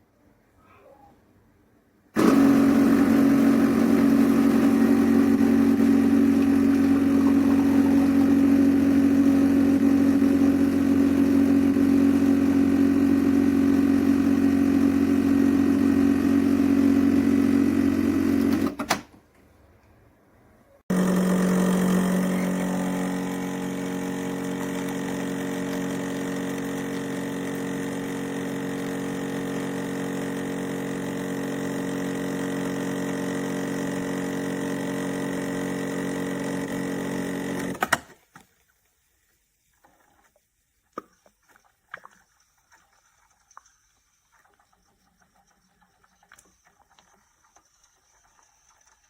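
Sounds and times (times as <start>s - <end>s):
espresso machine pump buzzing: 2.2s - 18.8s, 20.9s - 38.0s, 43.1s - 49.0s.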